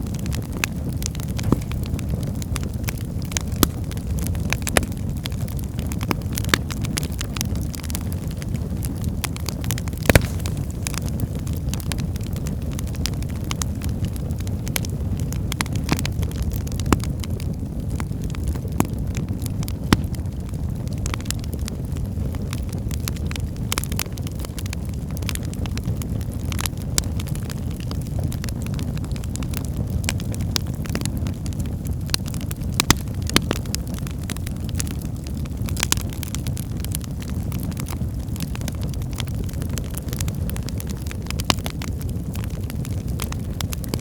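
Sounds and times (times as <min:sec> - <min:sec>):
burning logs crackling and popping: 0:00.0 - 0:44.0
low rumble of flames: 0:00.0 - 0:44.0.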